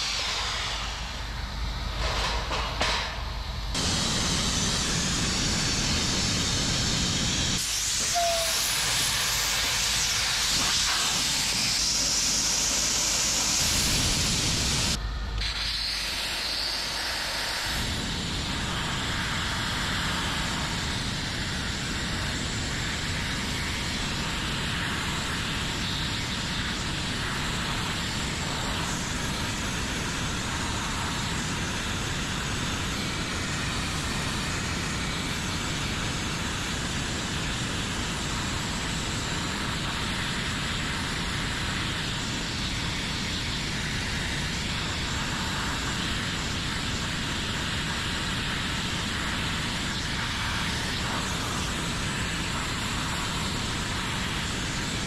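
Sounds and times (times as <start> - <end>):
sandblaster hissing: 0.0 - 55.0.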